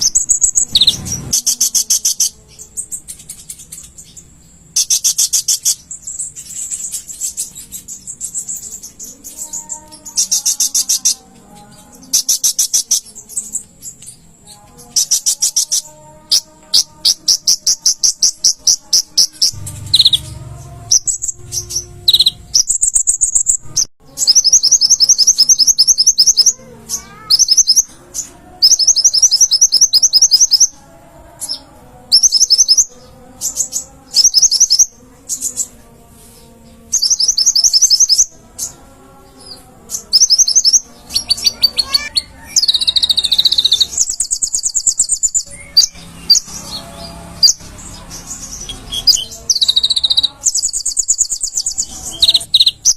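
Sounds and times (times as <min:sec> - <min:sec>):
bird singing chattering trills: 0:00.0 - 0:30.8, 0:31.4 - 0:35.8, 0:36.8 - 0:38.9, 0:39.9 - 0:52.9.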